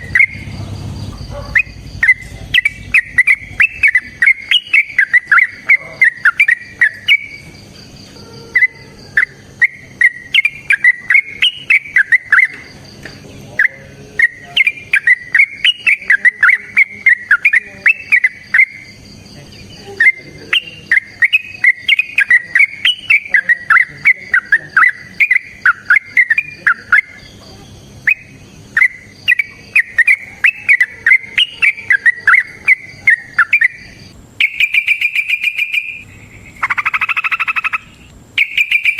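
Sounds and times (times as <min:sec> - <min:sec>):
bird singing bubbling whistles: 0:00.0 - 0:07.5, 0:08.6 - 0:12.5, 0:13.6 - 0:18.8, 0:20.0 - 0:27.3, 0:28.0 - 0:38.9.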